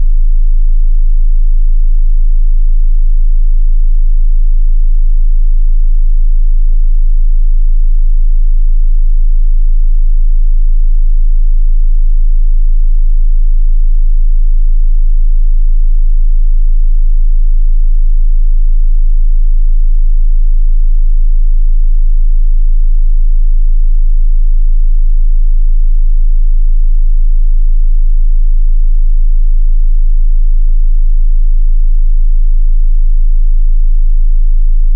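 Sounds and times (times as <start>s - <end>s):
deep bass sine tone: 0.0s - 34.9s.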